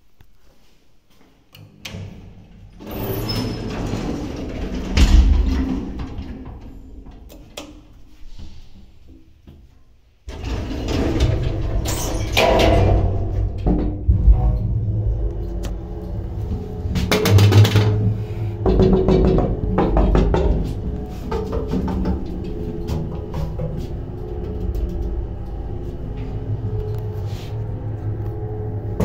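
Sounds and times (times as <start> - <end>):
lift doors sliding open: 1.9 - 8.0, 10.3 - 29.0.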